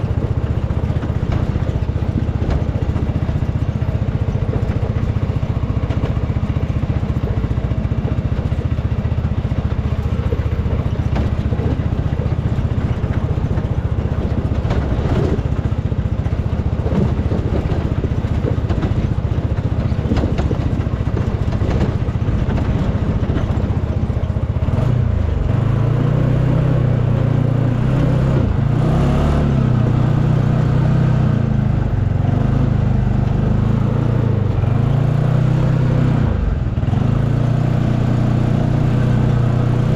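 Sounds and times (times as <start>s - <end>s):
knocks and rattles: 0.0s - 35.8s
utility vehicle engine running: 0.0s - 39.9s.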